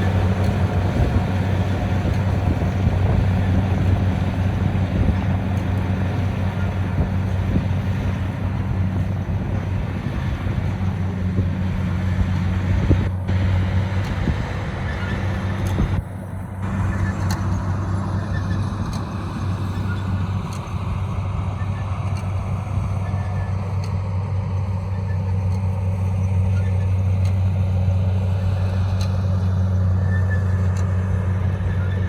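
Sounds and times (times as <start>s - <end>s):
combine harvester engine humming: 0.0s - 32.0s.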